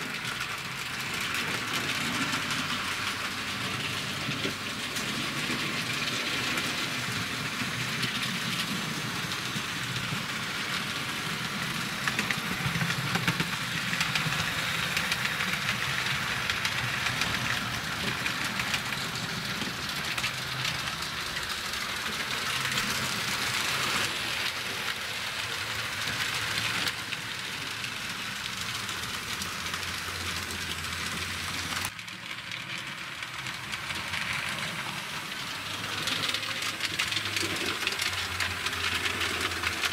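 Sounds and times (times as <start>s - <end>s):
model train wheels whirring: 0.0s - 39.9s.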